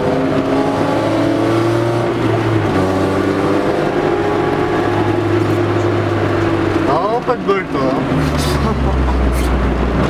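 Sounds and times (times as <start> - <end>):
car engine droning in cabin: 0.0 - 10.0.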